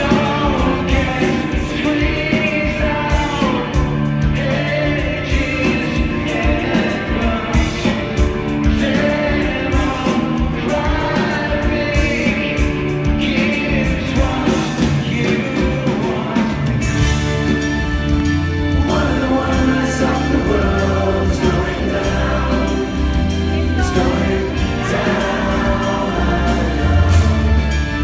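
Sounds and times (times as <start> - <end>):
bass guitar: 0.0 - 28.0
drums: 0.0 - 28.0
electric guitars: 0.0 - 28.0
vocals: 0.0 - 28.0.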